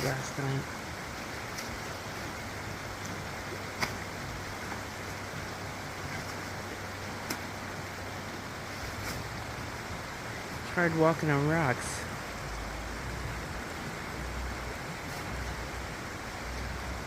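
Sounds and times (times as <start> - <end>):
running floodwater: 0.0 - 17.0.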